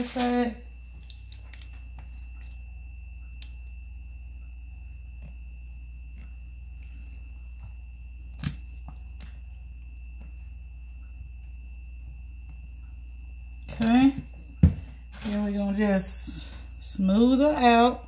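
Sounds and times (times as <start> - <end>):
faint high whine: 0.0 - 18.0
steady low hum: 0.0 - 18.0.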